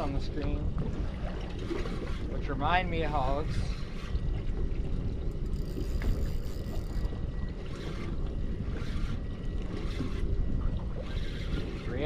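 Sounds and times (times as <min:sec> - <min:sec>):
water lapping against boat hull: 0:00.0 - 0:12.0
wind buffeting microphone: 0:00.0 - 0:12.0.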